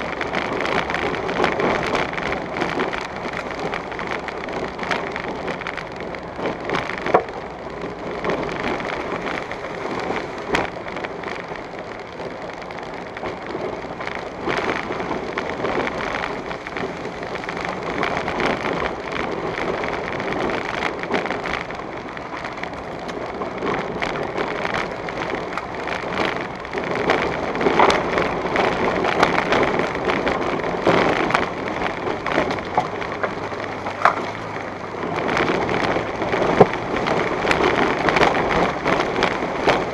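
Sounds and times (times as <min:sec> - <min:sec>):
tyres rumbling on rough dirt road: 0:00.0 - 0:39.9.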